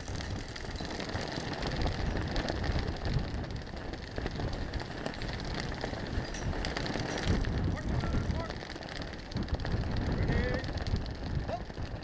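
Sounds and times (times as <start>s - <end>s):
rustling hiss with ticks: 0.0s - 12.0s
wind buffeting microphone: 0.0s - 12.0s.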